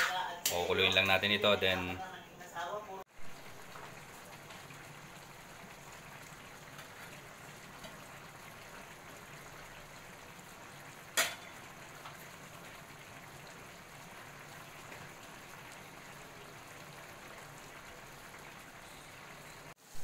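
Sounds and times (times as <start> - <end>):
sauce bubbling and crackling: 3.1 - 20.0.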